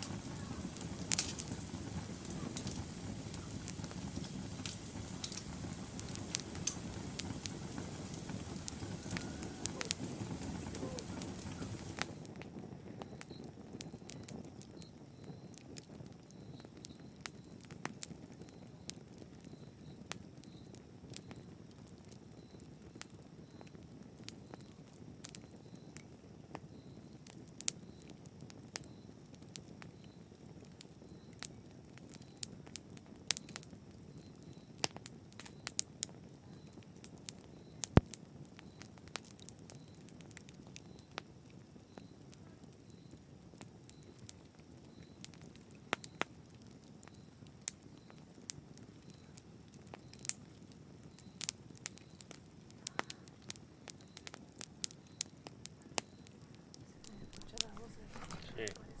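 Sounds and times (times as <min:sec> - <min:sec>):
wood fire crackling: 0:00.0 - 0:25.6, 0:26.2 - 0:59.0.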